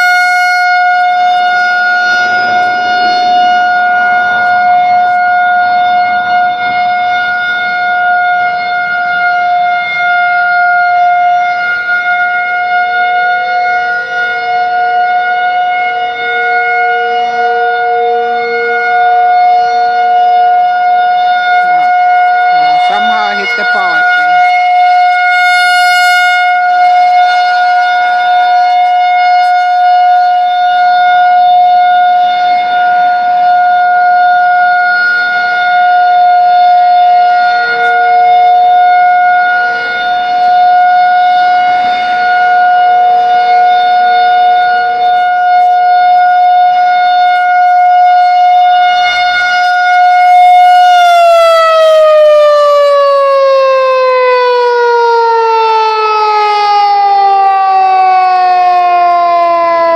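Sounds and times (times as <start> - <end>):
lower siren tone: 0.0 - 59.9
warning siren wailing: 0.0 - 59.9.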